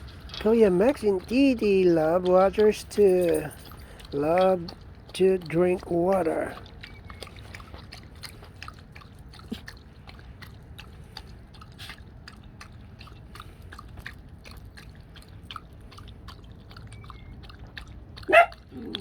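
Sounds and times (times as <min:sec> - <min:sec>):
dog lapping water: 0:00.0 - 0:19.0
low steady rumble: 0:00.0 - 0:19.0.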